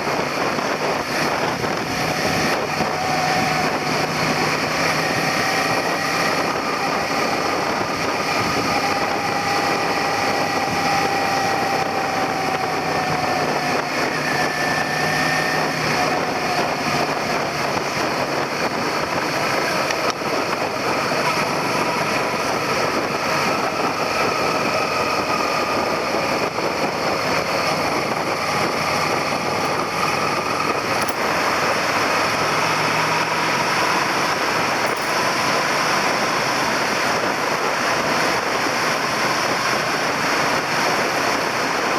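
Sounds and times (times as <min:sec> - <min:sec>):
motorcycle engine running: 0:00.0 - 0:41.9
wind rushing over camera: 0:00.0 - 0:41.9.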